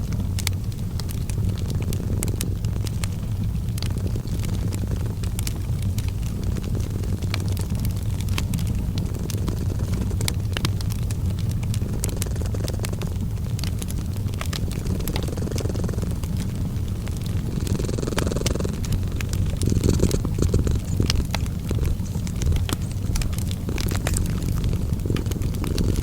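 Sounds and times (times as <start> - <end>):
cat purring: 0.0 - 26.0
wood fire crackling: 0.0 - 26.0.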